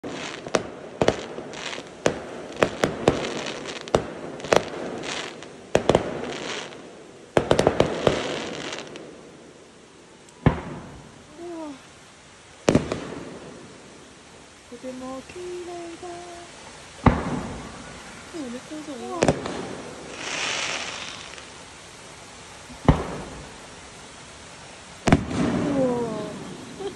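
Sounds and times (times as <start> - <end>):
crackle of firework stars: 0.0 - 26.9.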